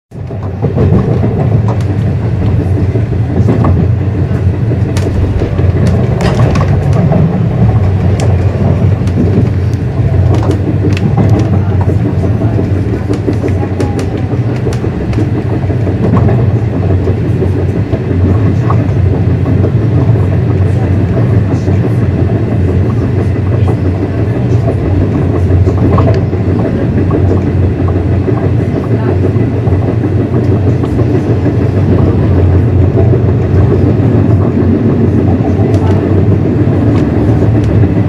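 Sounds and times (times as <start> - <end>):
train wheels rumbling on rails: 0.1 - 38.0.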